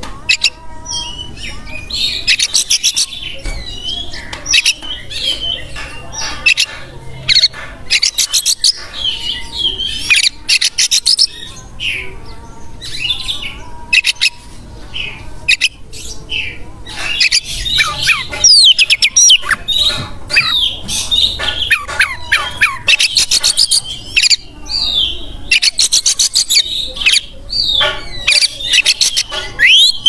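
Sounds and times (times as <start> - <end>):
bird singing trills and whistles: 0.3 - 6.7, 7.3 - 30.0.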